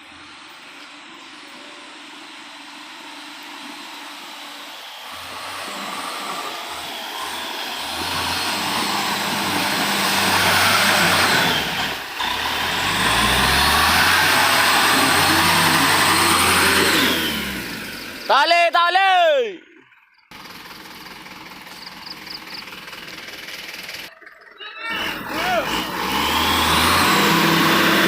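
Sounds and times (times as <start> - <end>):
vehicle engine running: 0.0 - 18.8, 19.5 - 28.0.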